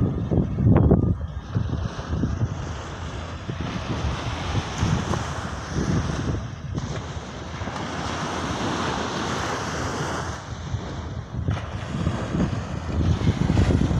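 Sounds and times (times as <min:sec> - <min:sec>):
wind buffeting microphone: 0:00.0 - 0:13.9
small waves breaking on shore: 0:01.4 - 0:13.9.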